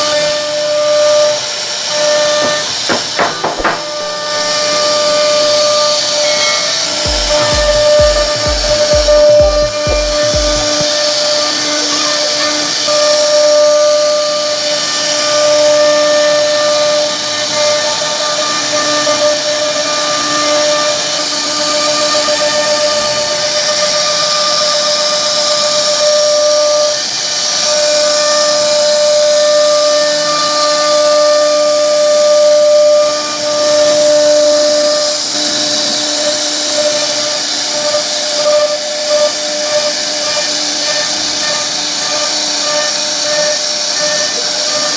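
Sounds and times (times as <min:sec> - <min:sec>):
hiss of wood being cut: 0:00.0 - 0:44.9
router spindle whining: 0:00.0 - 0:44.9.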